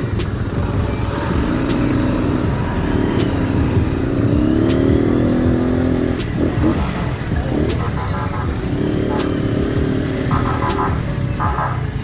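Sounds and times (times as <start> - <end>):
motorcycle engine revving: 0.0 - 12.0
traffic rumble: 0.0 - 12.0.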